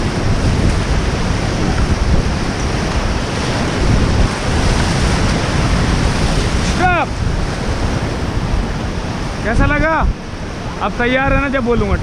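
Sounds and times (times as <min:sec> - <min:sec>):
river rapids rushing: 0:00.0 - 0:12.0
wind buffeting microphone: 0:00.0 - 0:12.0.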